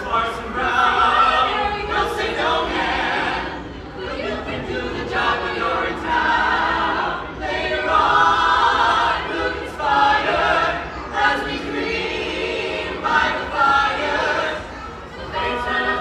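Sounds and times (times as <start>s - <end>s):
group singing a cappella: 0.0s - 16.0s.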